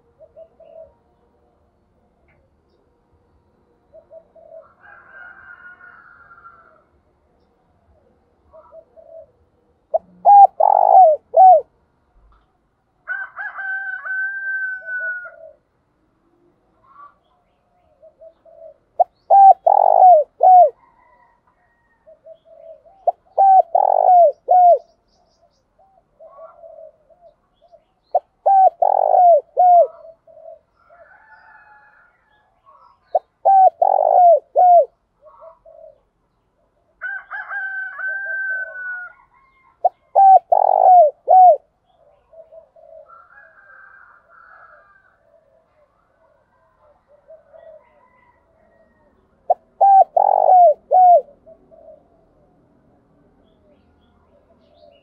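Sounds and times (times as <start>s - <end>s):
dove cooing: 0.0s - 1.2s, 3.9s - 6.8s, 7.9s - 11.8s, 13.9s - 15.7s, 16.3s - 24.9s, 25.8s - 52.6s.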